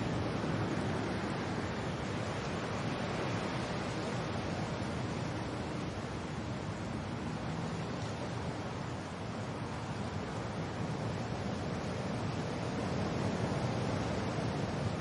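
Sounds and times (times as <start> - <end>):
steady rain: 0.0 - 15.0
wind: 0.0 - 15.0.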